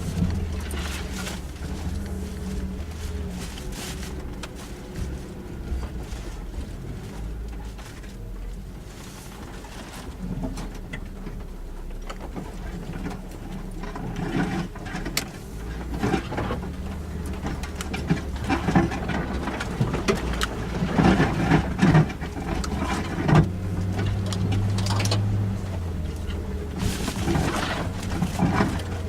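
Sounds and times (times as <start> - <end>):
knocks and clatters over rough ground: 0.0 - 29.0
vehicle engine under load: 0.0 - 29.0.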